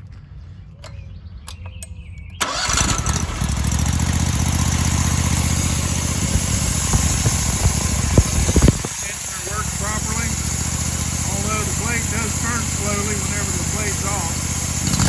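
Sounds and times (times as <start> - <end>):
engine starter clicks: 2.3 - 15.0
sawmill engine running: 2.4 - 15.0.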